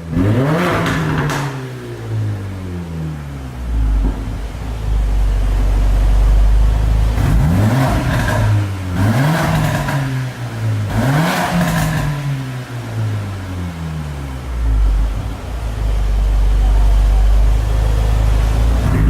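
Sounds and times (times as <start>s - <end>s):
car engine rumbling and revving: 0.0s - 19.0s.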